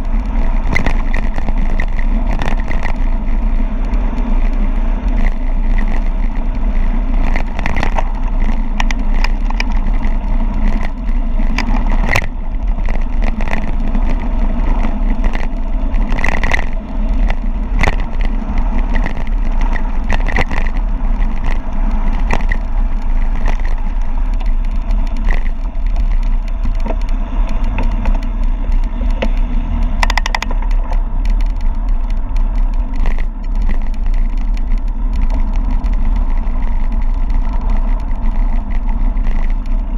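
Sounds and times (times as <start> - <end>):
bike rattling on gravel: 0.0 - 39.9
sharp clicks and knocks: 0.0 - 39.9
wind on microphone: 0.0 - 39.9.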